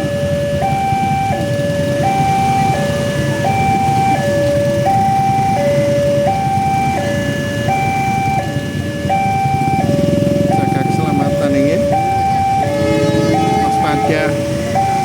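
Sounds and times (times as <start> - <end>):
level crossing two-note alarm: 0.6 - 15.0.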